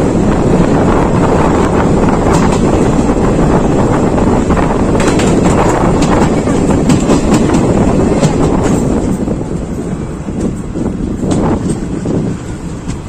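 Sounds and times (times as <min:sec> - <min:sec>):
train rumbling on rails: 0:00.0 - 0:13.0
wind buffeting microphone: 0:00.0 - 0:13.0.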